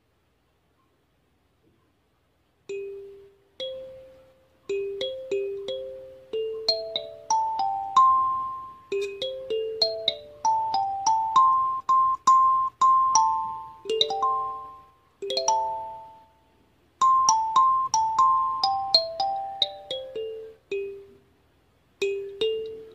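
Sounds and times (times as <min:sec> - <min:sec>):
kalimba playing: 0:02.7 - 0:16.3, 0:17.0 - 0:21.2, 0:22.0 - 0:22.9.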